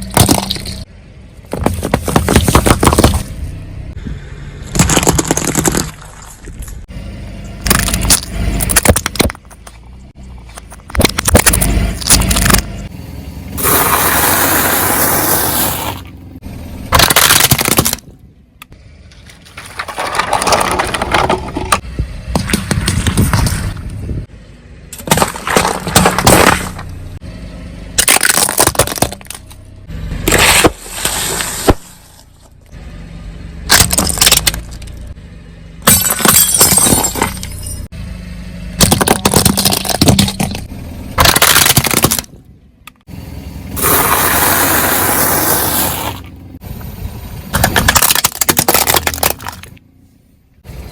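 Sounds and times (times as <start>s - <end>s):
objects crushing under car tyres: 0.0s - 3.4s, 4.6s - 6.9s, 7.6s - 12.9s, 13.6s - 18.2s, 19.1s - 24.2s, 24.9s - 27.2s, 27.9s - 32.8s, 33.6s - 35.2s, 35.8s - 37.9s, 38.8s - 43.0s, 43.8s - 46.6s, 47.4s - 49.9s.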